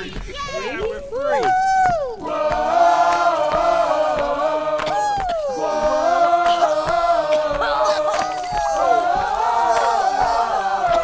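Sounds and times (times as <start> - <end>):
choir holding wordless chord: 2.2 - 11.0.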